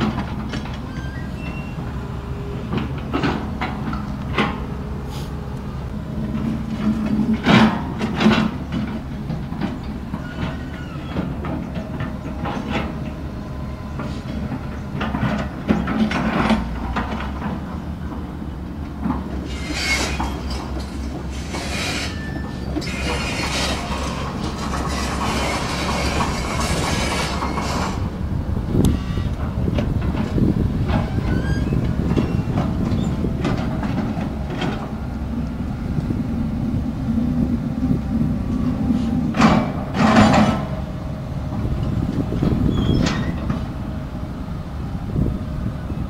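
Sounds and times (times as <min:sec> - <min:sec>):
excavator diesel engine running: 0:00.0 - 0:46.0
steel tracks driving: 0:00.0 - 0:46.0.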